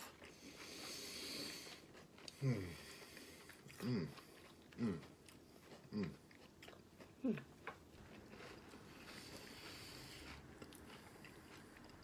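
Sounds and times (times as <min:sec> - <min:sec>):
people chewing fried food: 0:00.0 - 0:12.0.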